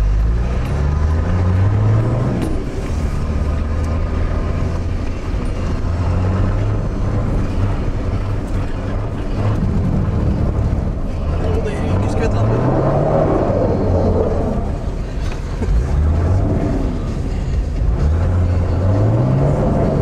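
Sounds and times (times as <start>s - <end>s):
car engine drone from inside: 0.0s - 20.0s
road and tyre noise: 0.0s - 20.0s.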